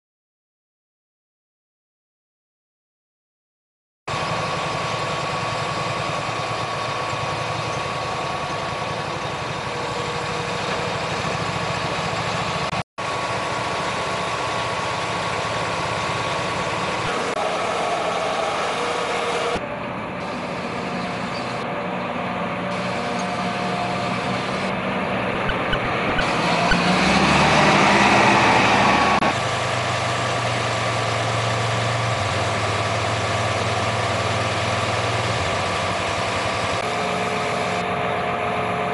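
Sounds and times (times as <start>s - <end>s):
tractor and atv engines running: 4.1s - 38.9s.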